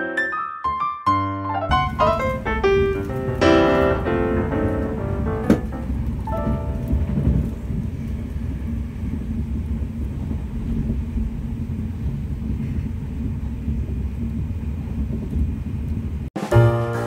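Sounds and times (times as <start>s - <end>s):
train rumble inside carriage: 1.7s - 16.3s.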